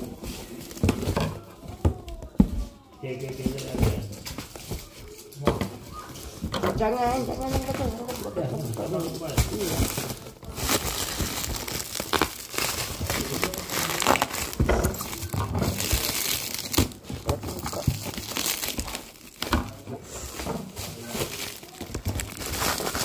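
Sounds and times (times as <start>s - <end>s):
plastic bag crinkling: 3.0s - 23.0s.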